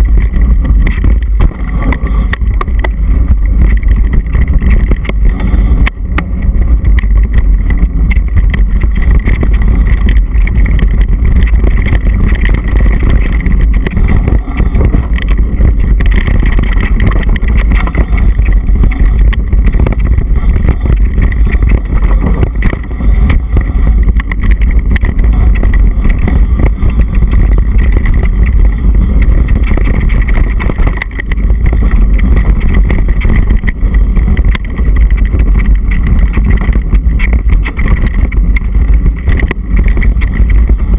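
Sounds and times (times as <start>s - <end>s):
bike knocks and rattles: 0.0s - 40.9s
wind buffeting microphone: 0.0s - 40.9s.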